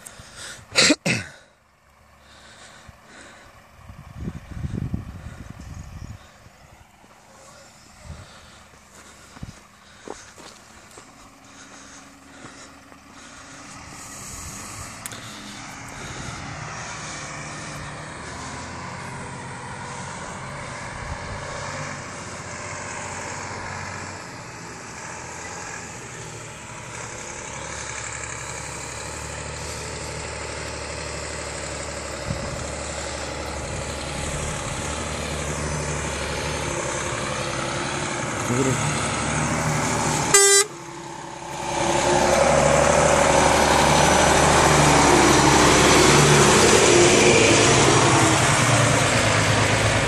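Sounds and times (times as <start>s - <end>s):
fire truck diesel engine running: 0.0s - 50.0s.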